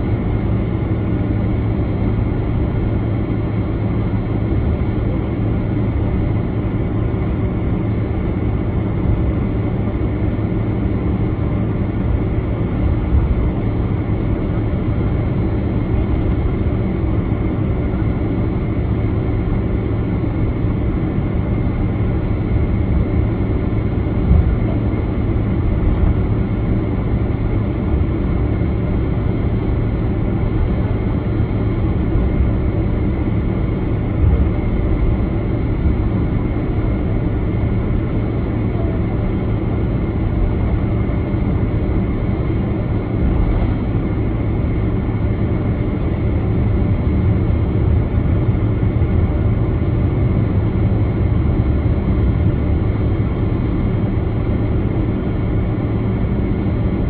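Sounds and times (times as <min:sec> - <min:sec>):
aircraft cabin engine hum: 0:00.0 - 0:57.0.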